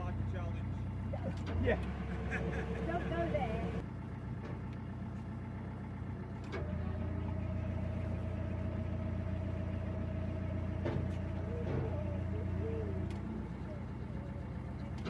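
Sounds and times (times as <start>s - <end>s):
diesel boat engine humming: 0.0s - 15.0s.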